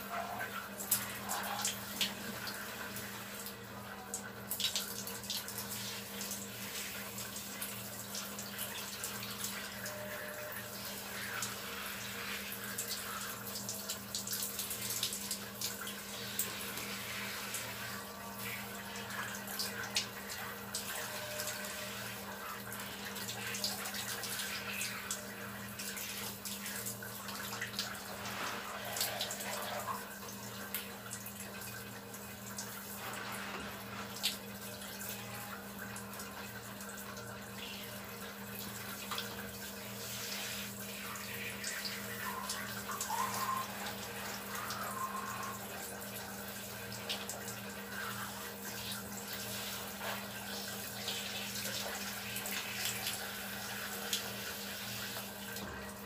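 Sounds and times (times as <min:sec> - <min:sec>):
shower water spraying on skin: 0:04.5 - 0:31.1, 0:32.5 - 0:35.5, 0:38.6 - 0:55.7.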